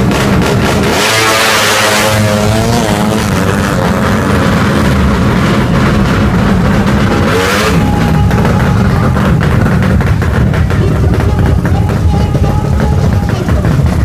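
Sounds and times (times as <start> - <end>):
motorcycle engine revving loudly: 0.0 - 14.0.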